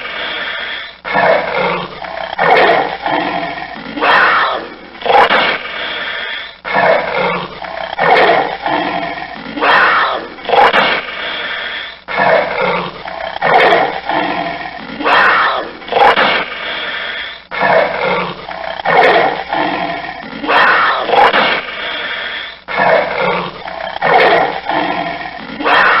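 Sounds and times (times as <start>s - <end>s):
panther roaring: 0.0s - 26.0s.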